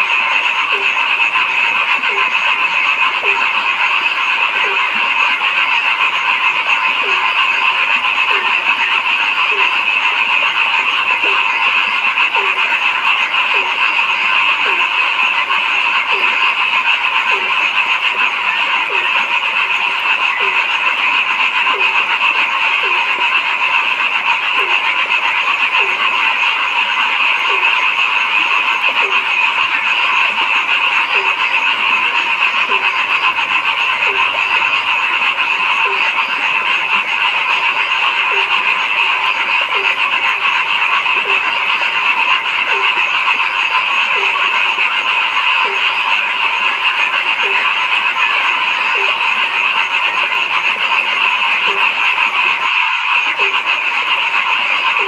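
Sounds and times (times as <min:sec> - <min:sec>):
chorus of frogs: 0:00.0 - 0:55.0
deep frog croaking: 0:00.0 - 0:55.0.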